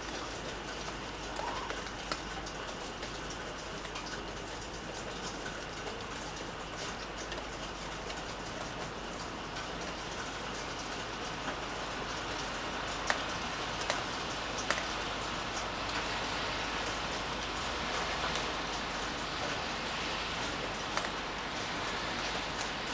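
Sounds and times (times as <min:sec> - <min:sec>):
steady rain falling: 0:00.0 - 0:22.9
single raindrops striking close: 0:03.8 - 0:22.9.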